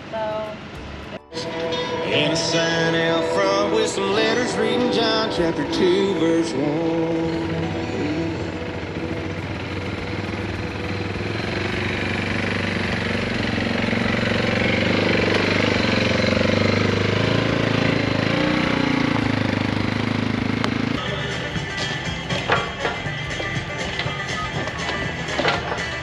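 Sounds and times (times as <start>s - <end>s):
atv engine under load: 0.0s - 26.0s.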